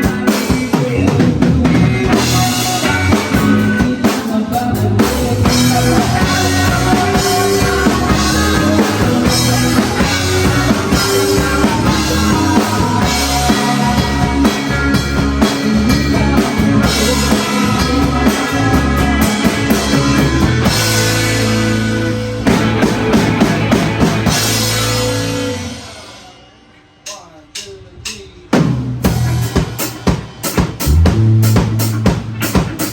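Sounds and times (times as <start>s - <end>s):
bass guitar: 0.0s - 26.1s, 28.6s - 32.9s
electric guitar: 0.0s - 26.4s, 29.0s - 32.9s
drum kit beat: 0.0s - 32.9s.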